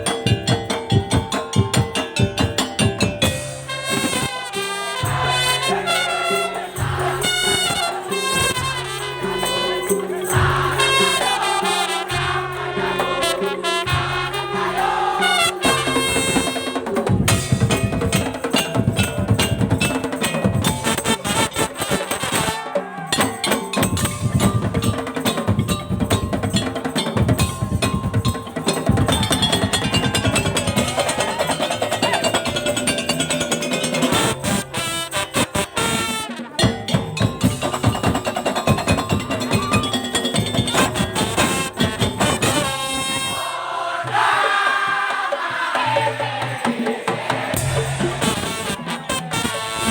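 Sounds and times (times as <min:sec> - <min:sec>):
driving drum and percussion: 0:00.0 - 0:49.9.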